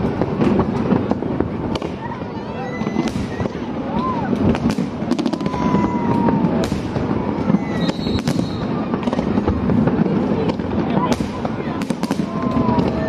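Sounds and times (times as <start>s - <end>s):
fireworks bangs and crackles: 0.0s - 13.0s
rumble of distant fireworks bursts: 0.0s - 13.0s.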